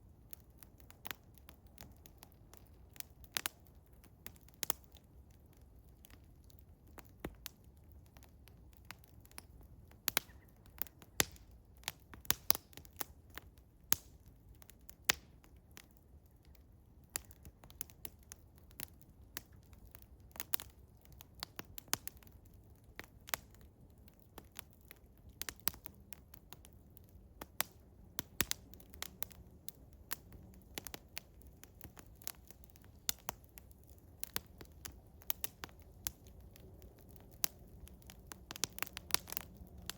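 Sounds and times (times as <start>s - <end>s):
wood fire crackling and popping: 0.1s - 39.9s.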